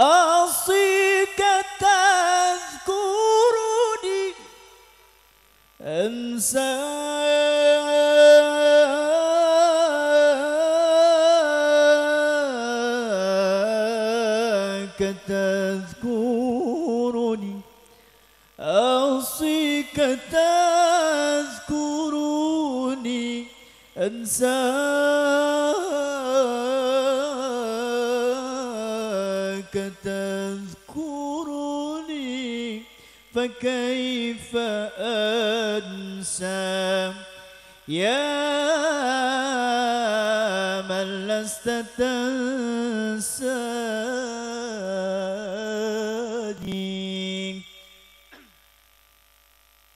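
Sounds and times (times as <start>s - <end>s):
man singing amplified: 0.0s - 5.1s, 5.7s - 48.5s.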